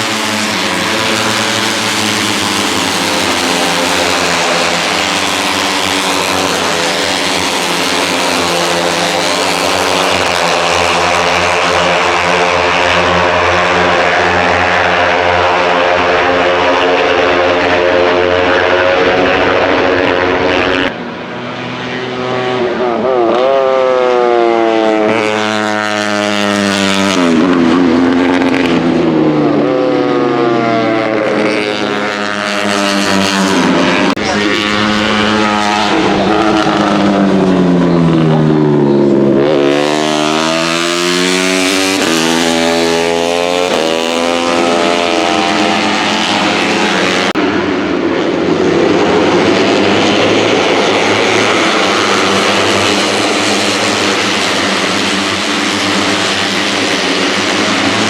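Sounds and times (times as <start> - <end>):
race motorcycles revving past: 0.0 - 58.0.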